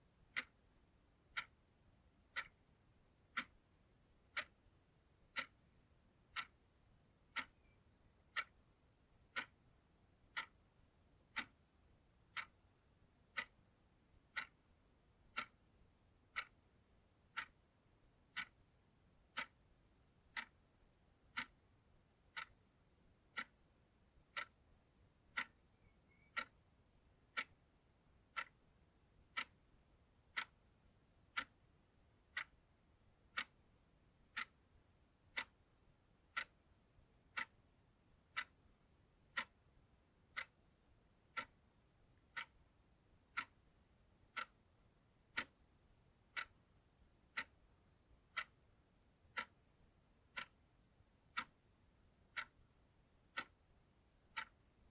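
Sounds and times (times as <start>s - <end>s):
clock ticking: 0.0s - 54.9s.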